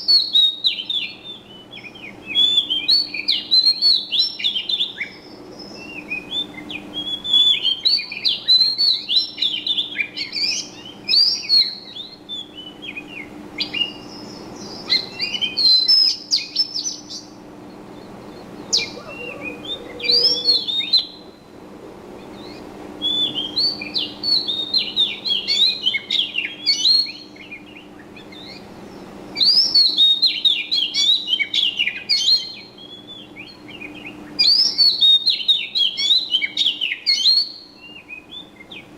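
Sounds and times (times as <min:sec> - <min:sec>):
faint low hum: 0:00.0 - 0:34.9
small birds chirping: 0:00.0 - 0:38.9.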